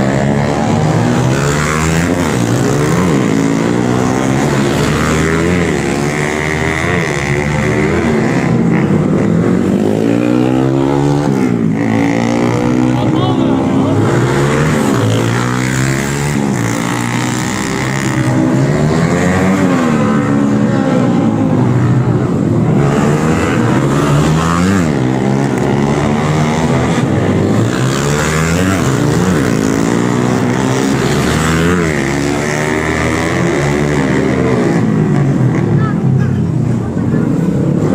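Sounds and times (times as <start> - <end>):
racing motorcycle engines revving: 0.0 - 37.9.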